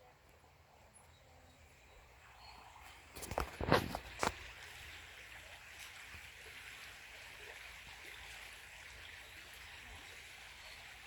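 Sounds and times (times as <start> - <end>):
creek water rushing: 2.0 - 11.0.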